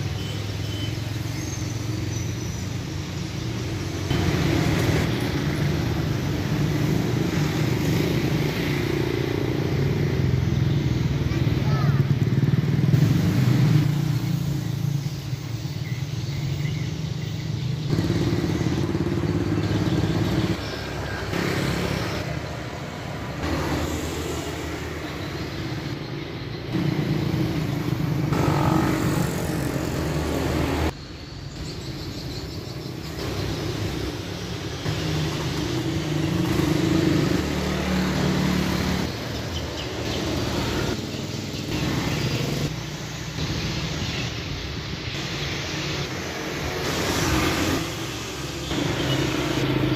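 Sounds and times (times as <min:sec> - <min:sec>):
street traffic: 0:00.0 - 0:49.9.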